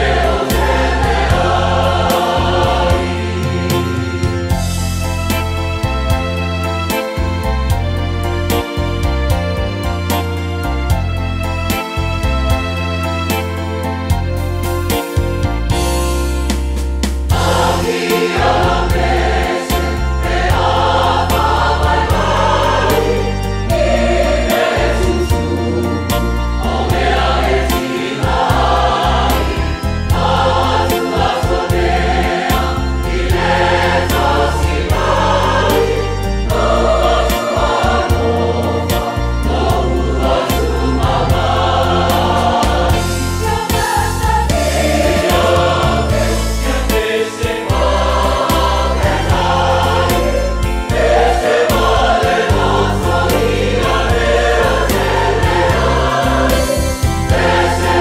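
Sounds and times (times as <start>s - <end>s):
church choir singing a hymn: 0.0s - 11.1s, 17.3s - 58.0s
instrumental accompaniment with bass: 0.0s - 58.0s.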